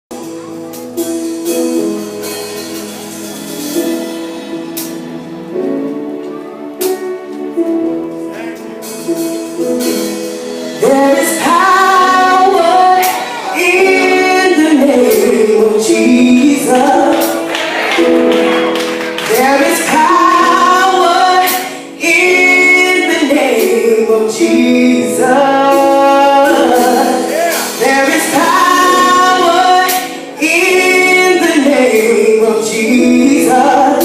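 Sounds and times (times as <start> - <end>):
keyboard chords: 0.1 - 34.0.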